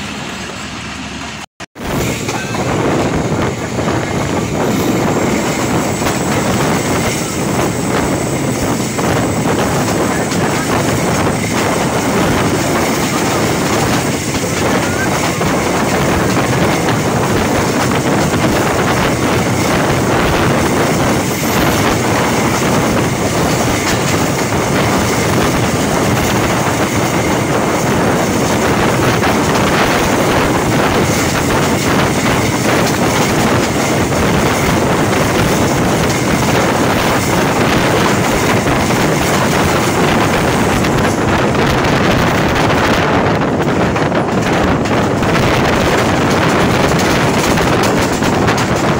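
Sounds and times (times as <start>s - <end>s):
train engine and wheel rush: 0.0s - 48.9s
clickety-clack of track: 1.9s - 48.9s.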